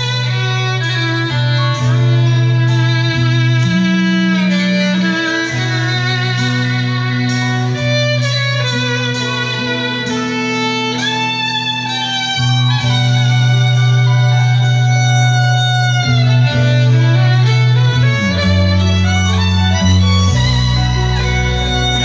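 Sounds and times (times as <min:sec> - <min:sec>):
band sustained low notes: 0:00.0 - 0:22.0
violin melody: 0:00.0 - 0:22.0.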